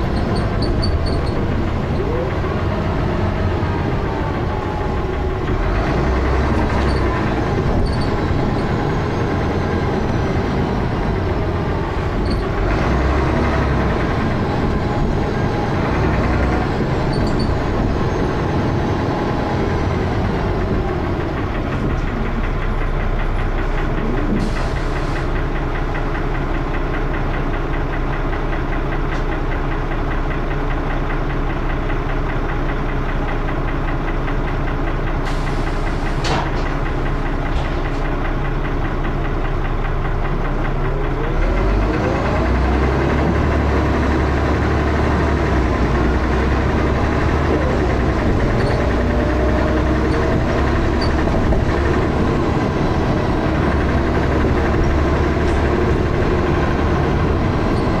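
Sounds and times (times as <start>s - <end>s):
bus engine knocking: 0.0s - 58.0s.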